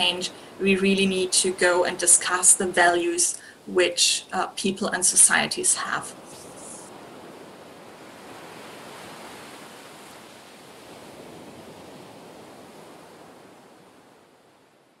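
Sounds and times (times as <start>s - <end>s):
sea waves rushing and churning: 0.0s - 15.0s.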